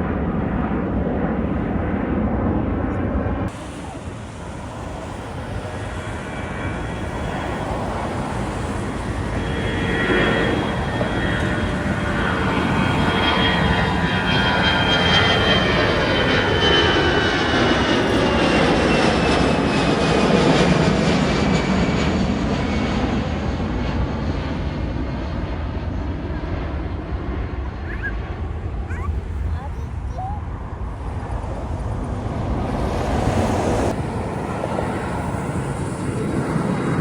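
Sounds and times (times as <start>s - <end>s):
high engine whine: 0.0s - 37.0s
jet airliner passing: 0.0s - 37.0s.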